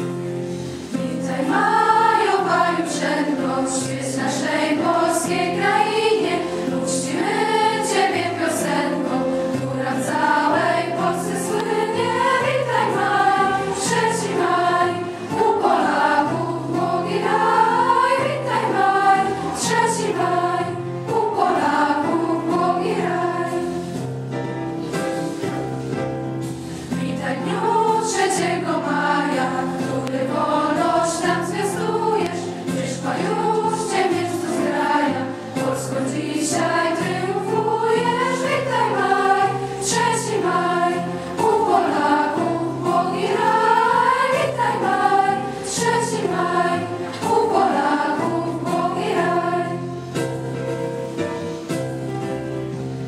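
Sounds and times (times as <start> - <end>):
children's choir singing: 0.0 - 24.2, 26.8 - 52.9
instrumental accompaniment: 0.0 - 53.0.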